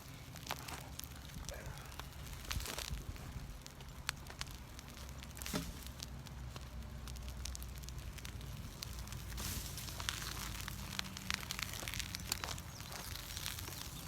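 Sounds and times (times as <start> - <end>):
loud fire crack: 0.0 - 14.0
wood fire crackling: 0.0 - 14.0.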